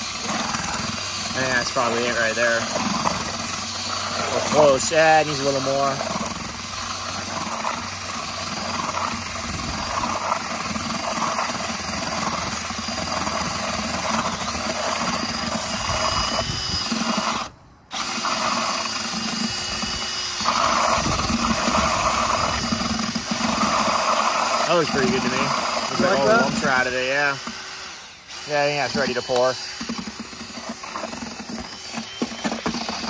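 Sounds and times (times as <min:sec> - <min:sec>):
power drill mixing cement: 0:00.0 - 0:33.0.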